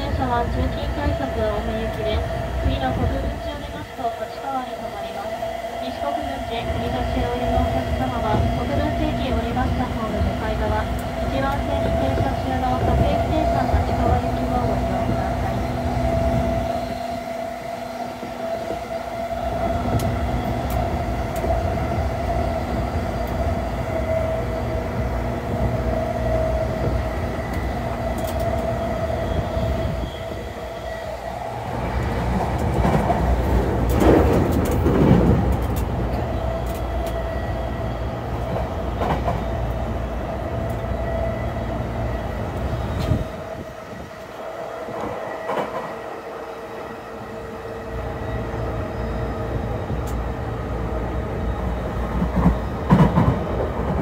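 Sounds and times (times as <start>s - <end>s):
train wheels rumbling on rail: 0.0s - 54.0s
train whine: 0.0s - 54.0s.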